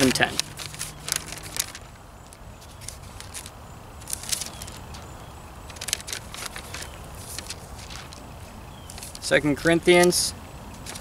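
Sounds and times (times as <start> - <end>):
low background rumble: 0.0 - 9.2
thin pages rustling: 0.0 - 11.0.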